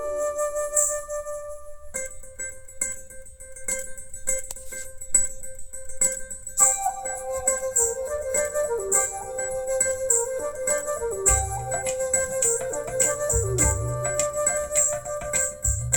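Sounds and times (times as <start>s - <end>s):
plucked-string instrument melody: 1.9s - 15.9s.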